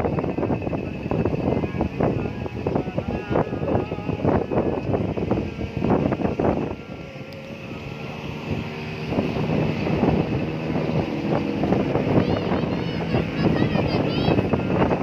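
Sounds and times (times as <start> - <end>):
wind noise on microphone: 0.0 - 15.0
large vehicle engine passing: 0.7 - 15.0.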